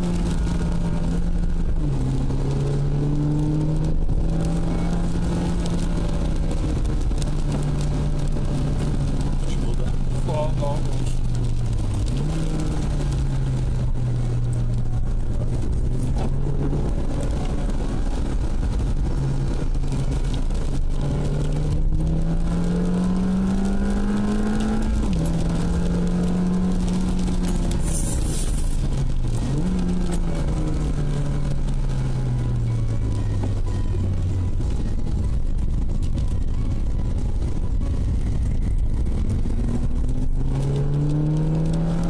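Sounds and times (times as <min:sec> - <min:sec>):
car engine running: 0:00.0 - 0:42.0
tyre noise on wet road: 0:00.0 - 0:42.0.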